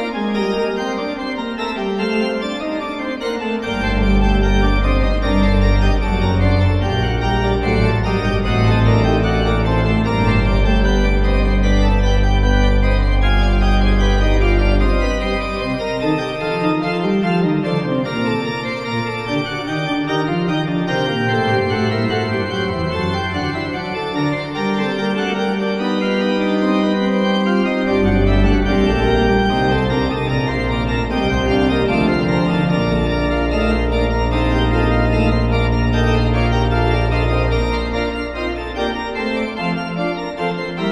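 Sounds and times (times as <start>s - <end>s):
organ chords: 0.0s - 40.9s.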